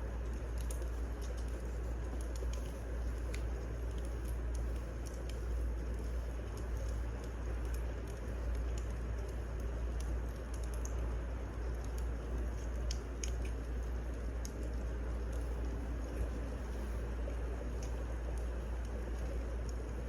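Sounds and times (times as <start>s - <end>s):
fire popping and snapping: 0.0s - 20.0s
wood fire rumbling: 0.0s - 20.0s.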